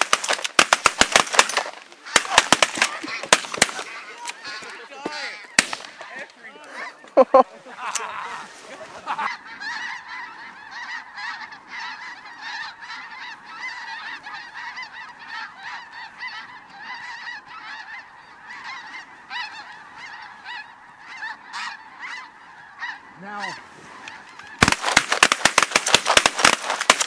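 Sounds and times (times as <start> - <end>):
geese honking and yelping: 0.0 - 27.0.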